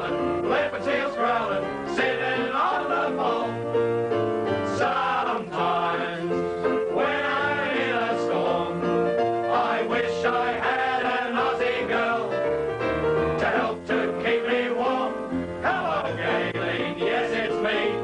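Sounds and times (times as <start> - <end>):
country song with singing: 0.0 - 3.7, 4.6 - 12.4, 13.4 - 18.0.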